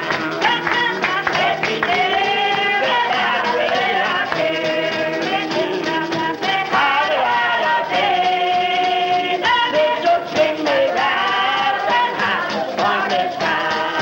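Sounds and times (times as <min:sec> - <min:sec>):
congregation singing gospel song: 0:00.0 - 0:14.0
strummed acoustic guitar: 0:00.0 - 0:14.0.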